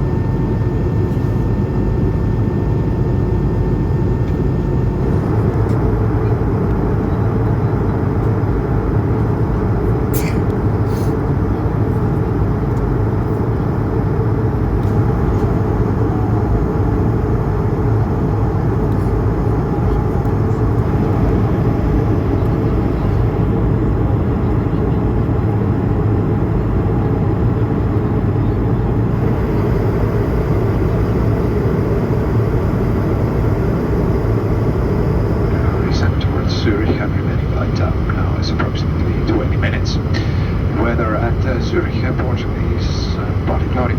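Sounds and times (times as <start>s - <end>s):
jet engine cabin drone: 0.0s - 43.9s.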